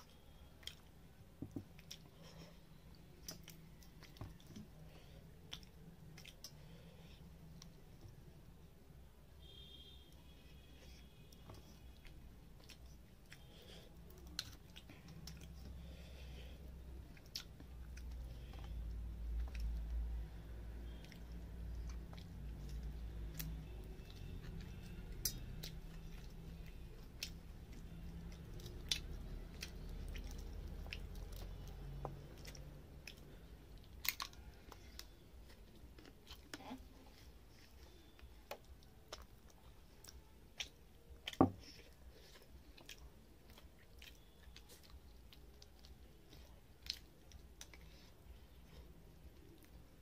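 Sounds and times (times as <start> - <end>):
chewing and wet mouth smacks: 0.0 - 6.9, 10.9 - 15.9, 16.8 - 49.9.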